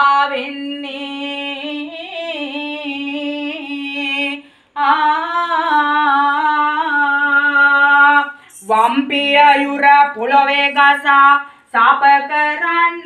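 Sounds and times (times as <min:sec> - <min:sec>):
woman singing long held notes: 0:00.0 - 0:13.0.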